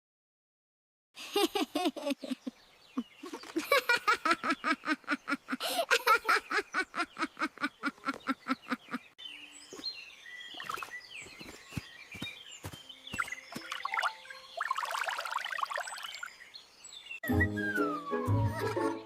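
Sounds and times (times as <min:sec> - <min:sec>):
birds chirping: 0:01.2 - 0:19.0.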